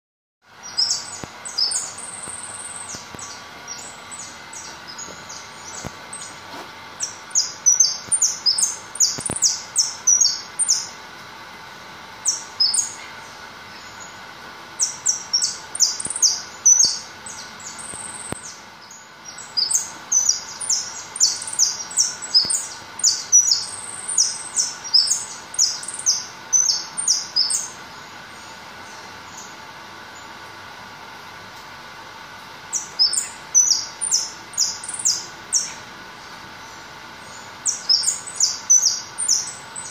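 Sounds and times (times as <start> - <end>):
finch singing high chirps: 0.6 - 11.0, 12.2 - 14.2, 14.8 - 29.6, 32.7 - 39.9.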